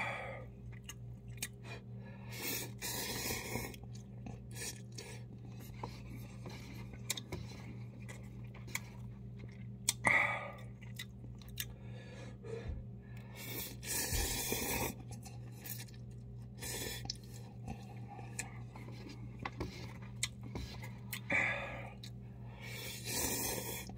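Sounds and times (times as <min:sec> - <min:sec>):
person chewing noodles: 0:00.0 - 0:12.4, 0:13.1 - 0:23.9
steady low hum: 0:00.0 - 0:23.9.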